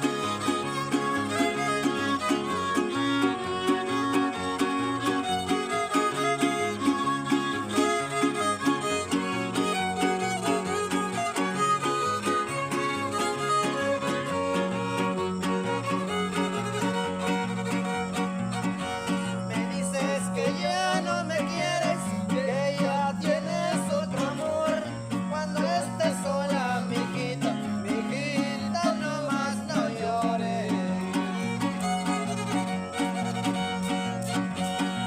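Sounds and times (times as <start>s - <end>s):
strummed guitars: 0.0s - 35.0s
violin melody with vibrato: 0.0s - 35.0s.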